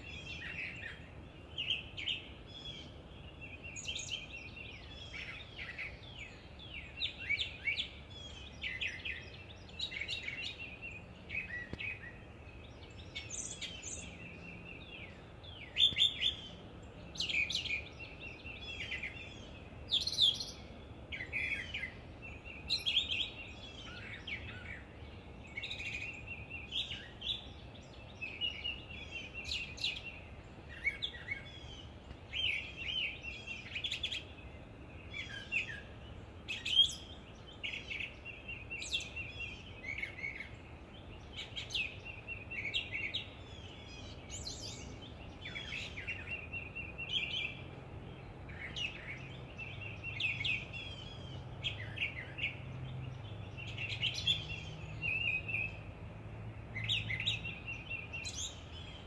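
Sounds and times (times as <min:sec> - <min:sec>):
faint outdoor background hiss: 0:00.0 - 0:59.0
nightingale singing: 0:00.0 - 0:59.0.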